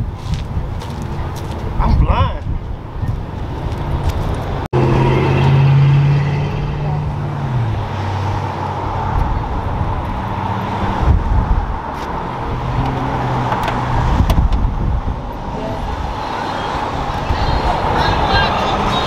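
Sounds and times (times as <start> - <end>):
passing vehicles engine hum: 2.6 - 19.0.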